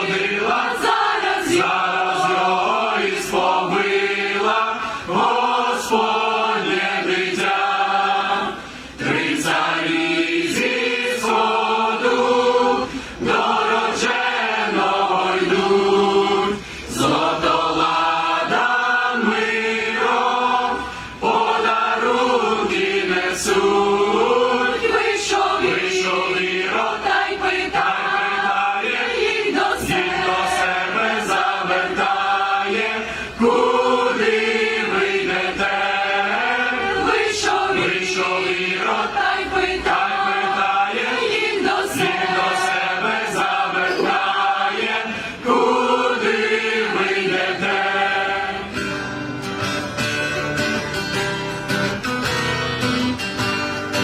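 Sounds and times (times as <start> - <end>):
choir singing a carol: 0.0 - 49.1.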